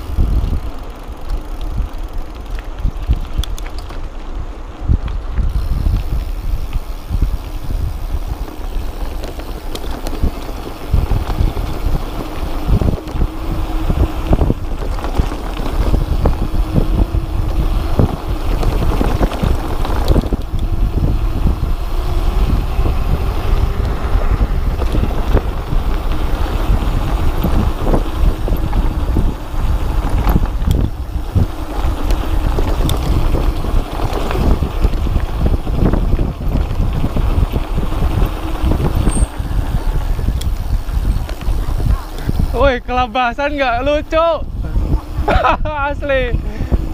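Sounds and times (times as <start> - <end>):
mountain bike rattling over rough ground: 0.0 - 46.9
wind buffeting microphone: 0.0 - 46.9.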